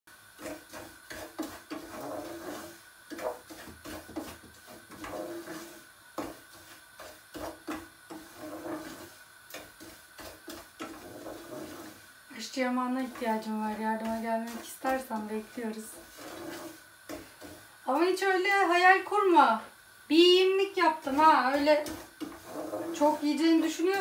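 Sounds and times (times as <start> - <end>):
wooden spoon scraping a pot: 0.2 - 18.3, 20.4 - 24.0.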